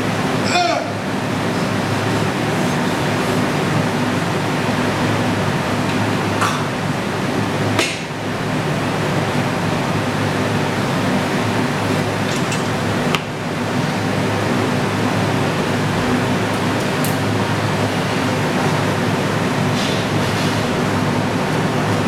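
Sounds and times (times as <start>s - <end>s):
floor fan humming: 0.0s - 22.0s.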